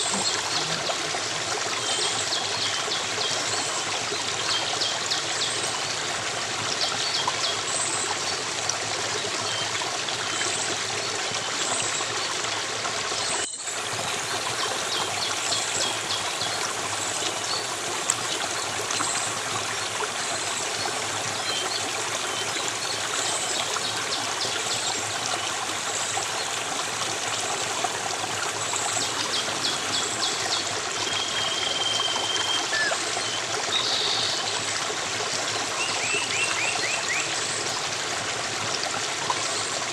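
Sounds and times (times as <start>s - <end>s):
flowing stream babbling: 0.0s - 39.9s.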